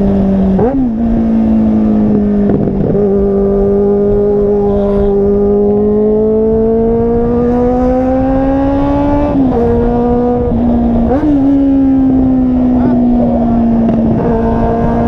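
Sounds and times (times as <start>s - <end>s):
car engine and exhaust running: 0.0s - 15.0s.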